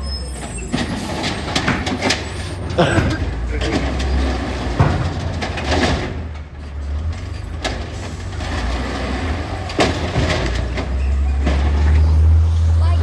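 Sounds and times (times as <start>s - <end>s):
garbage truck diesel engine rumbling: 0.0s - 13.0s
truck knocks and clanks: 0.0s - 13.0s.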